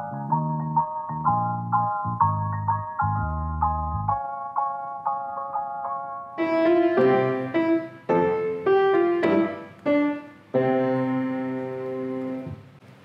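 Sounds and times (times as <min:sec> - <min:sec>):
piano playing slow chords: 0:00.0 - 0:12.9.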